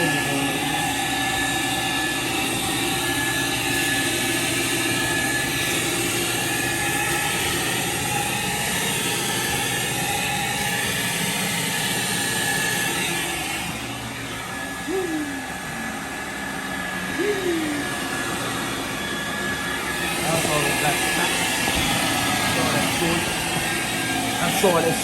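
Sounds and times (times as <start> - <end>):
carpet extractor suction rush: 0.0 - 25.0
vacuum motor whine: 0.0 - 25.0.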